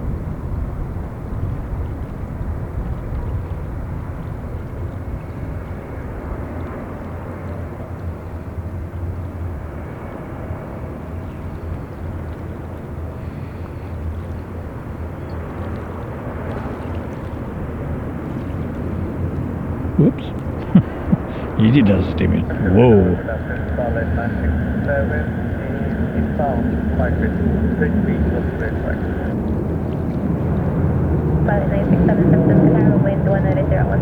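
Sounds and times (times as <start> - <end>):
jet engines rumbling: 0.0 - 34.0
wind noise: 0.0 - 34.0.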